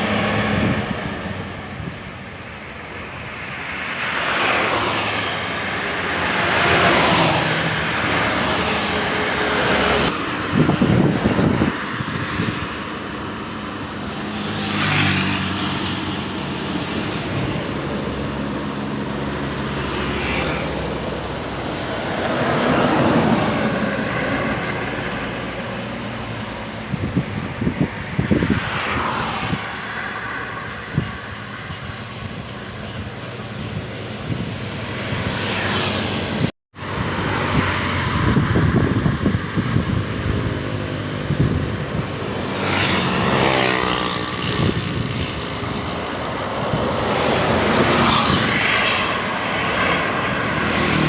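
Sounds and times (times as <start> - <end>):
heavy vehicles passing: 0.0 - 51.0.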